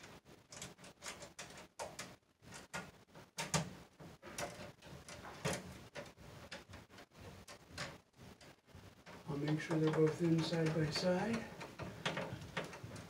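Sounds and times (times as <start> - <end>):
copper wires clicking and scraping: 0.0 - 13.0.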